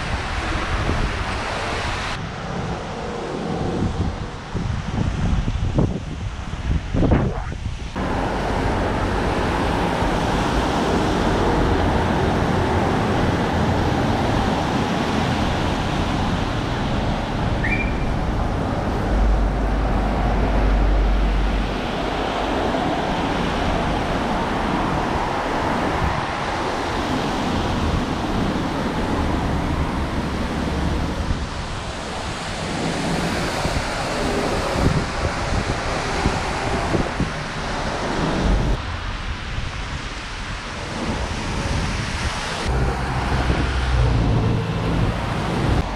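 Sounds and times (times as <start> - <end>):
traffic on wet road: 0.0 - 45.9
wind on microphone: 0.0 - 45.9.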